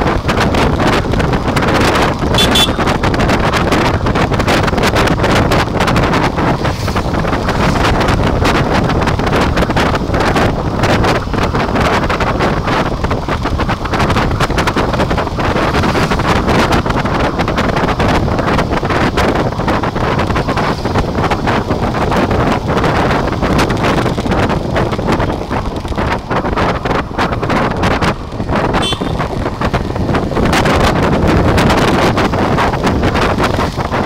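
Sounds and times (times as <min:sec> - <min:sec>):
motorcycle running noise: 0:00.0 - 0:34.0
wind buffeting microphone: 0:00.0 - 0:34.0.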